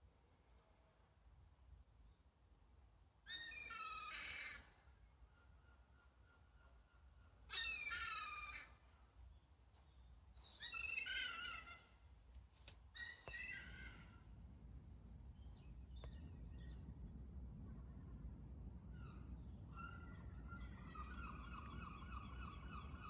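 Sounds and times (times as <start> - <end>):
songbird singing faintly: 3.2 - 23.0.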